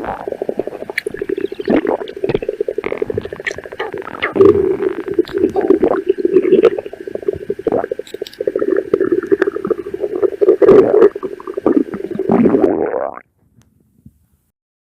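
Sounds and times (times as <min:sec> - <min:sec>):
stomach growling: 0:00.0 - 0:13.3.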